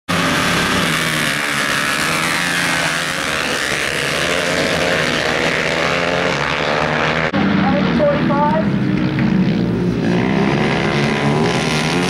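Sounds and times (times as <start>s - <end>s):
racing motorcycles at high revs: 0.1s - 12.0s.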